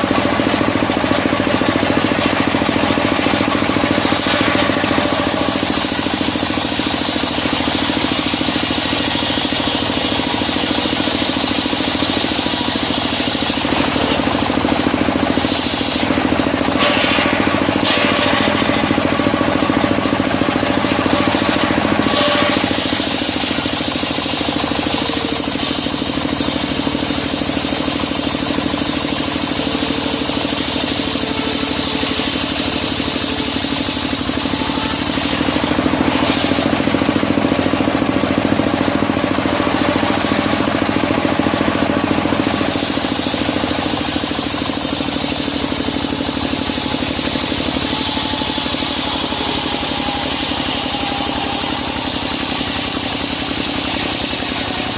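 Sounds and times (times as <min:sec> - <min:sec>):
sawmill sawing timber: 0:00.0 - 0:54.9.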